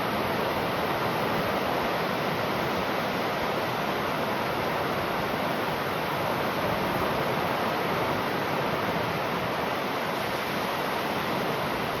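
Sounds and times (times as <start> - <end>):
ocean waves rushing: 0.0 - 12.0.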